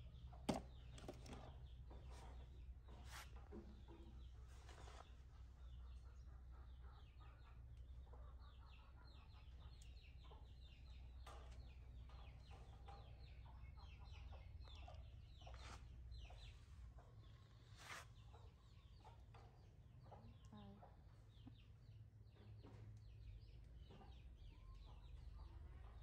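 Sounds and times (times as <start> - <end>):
faint chickens clucking: 0.0 - 26.0
chick peeps: 5.1 - 26.0.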